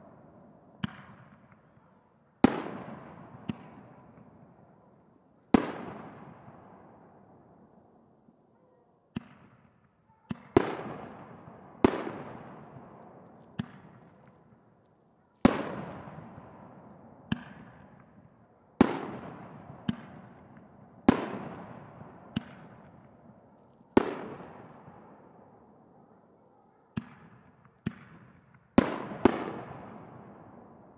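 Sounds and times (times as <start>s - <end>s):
fireworks bangs with echo: 0.0s - 1.8s, 2.4s - 4.5s, 5.6s - 7.2s, 9.1s - 14.6s, 15.4s - 25.8s, 26.8s - 30.9s.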